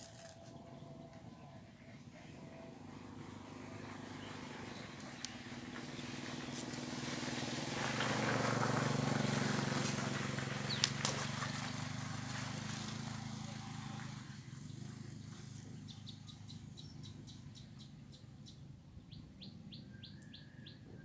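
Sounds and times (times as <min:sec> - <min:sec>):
motor engine humming by: 0:00.0 - 0:21.0.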